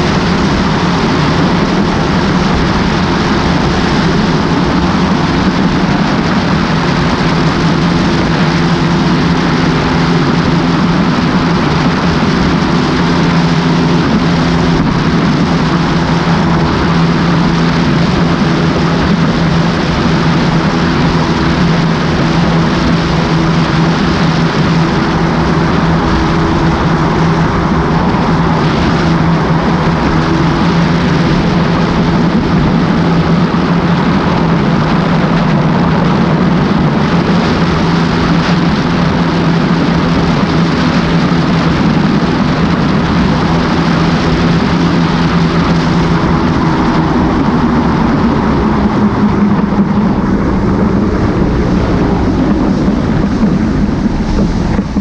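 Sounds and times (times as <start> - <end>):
outboard motor droning: 0.0 - 55.0
wind and water rushing: 0.0 - 55.0.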